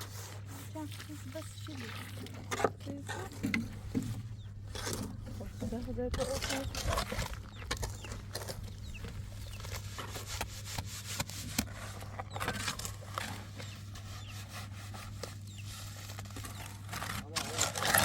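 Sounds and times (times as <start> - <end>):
scraping and rubbing: 0.0 - 18.0
steady low hum: 0.0 - 18.0.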